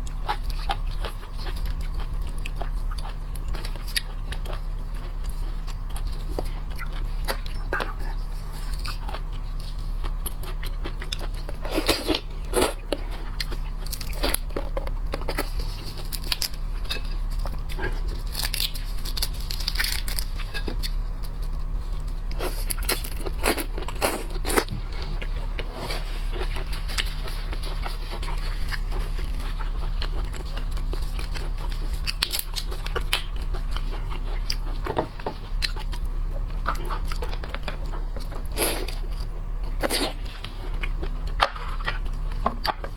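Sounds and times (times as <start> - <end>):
chewing: 0.0 - 42.9
crunching seafood: 0.0 - 42.9
steady low hum: 0.0 - 42.9.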